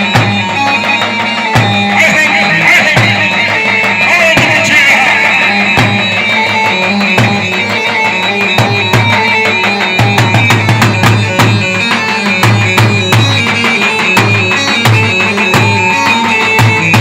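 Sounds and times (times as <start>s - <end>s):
reedy held melody: 0.0s - 17.0s.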